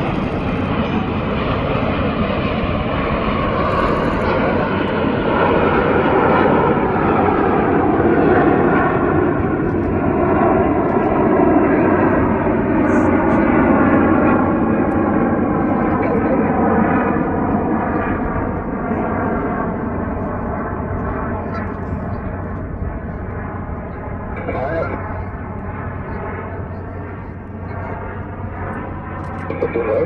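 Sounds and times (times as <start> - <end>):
jet engines in flight: 0.0 - 30.0.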